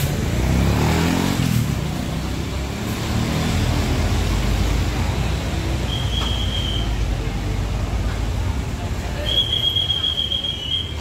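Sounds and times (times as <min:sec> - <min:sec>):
bus diesel engine running: 0:01.4 - 0:11.0.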